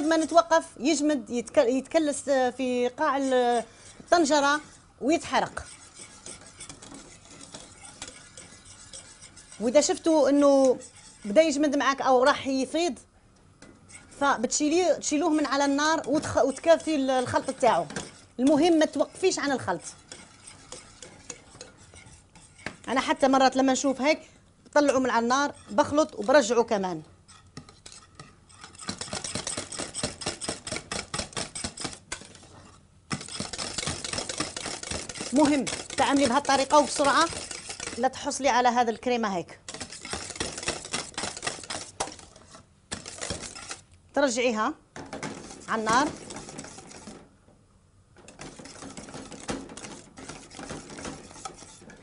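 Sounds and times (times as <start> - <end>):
whisk clicking and scraping in pot: 0.0 - 0.7, 1.3 - 12.8, 13.5 - 24.0, 24.7 - 44.0, 45.0 - 47.3, 48.2 - 52.0.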